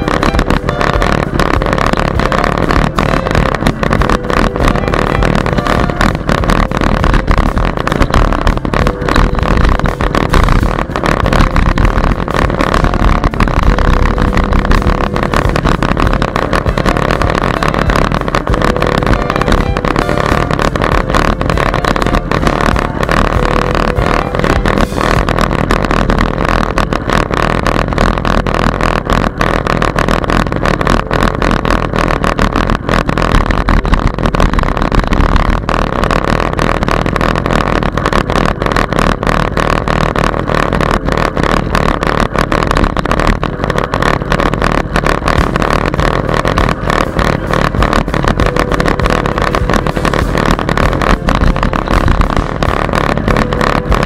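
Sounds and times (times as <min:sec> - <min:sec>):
bike and camera rattling: 0:00.0 - 0:54.0
wind rushing over microphone: 0:00.0 - 0:54.0.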